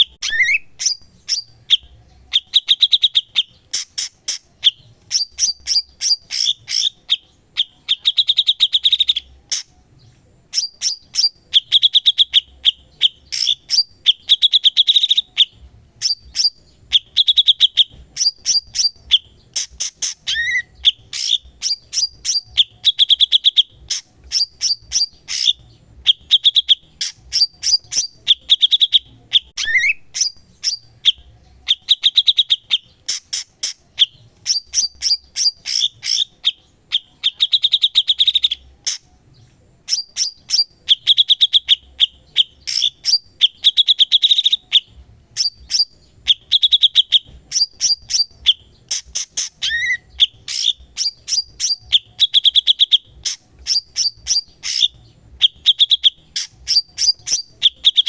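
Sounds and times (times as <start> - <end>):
bird singing chattering trills: 0.0 - 58.0.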